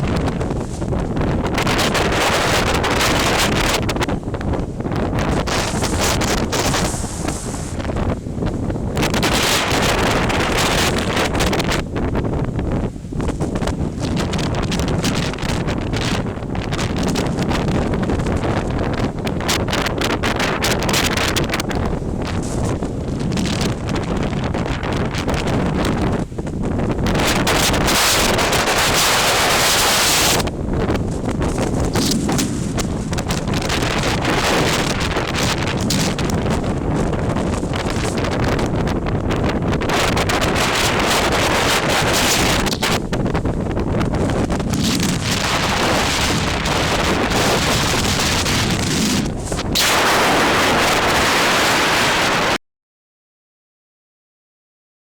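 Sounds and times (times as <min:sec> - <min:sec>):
strong wind buffeting microphone: 0:00.0 - 0:52.6.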